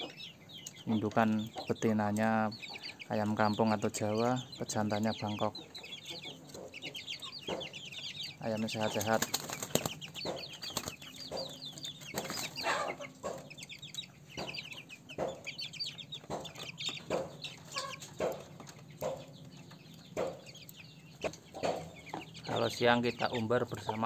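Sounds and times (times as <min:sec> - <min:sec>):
chicks peeping and clucking: 0:00.0 - 0:24.0.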